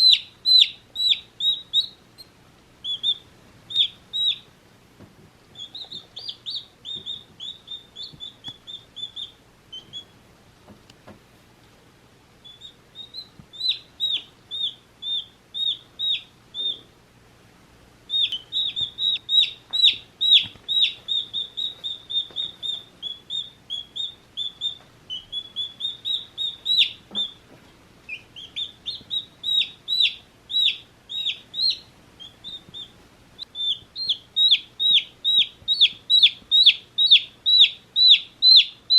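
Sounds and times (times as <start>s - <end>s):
baby chicks peeping: 0.0s - 11.2s, 12.4s - 17.1s, 18.0s - 38.9s.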